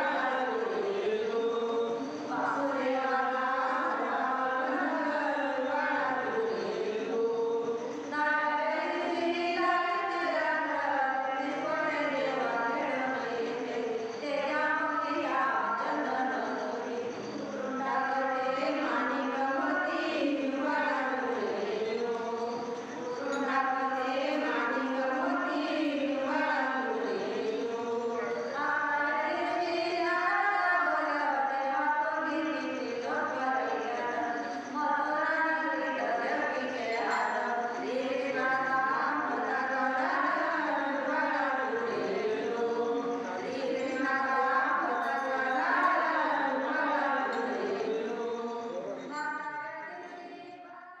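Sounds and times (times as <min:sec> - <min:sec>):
women singing devotional song: 0:00.0 - 0:51.0.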